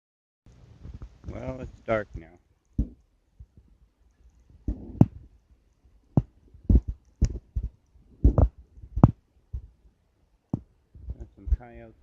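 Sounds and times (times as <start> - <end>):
campfire wood crackling: 0.5 - 12.0.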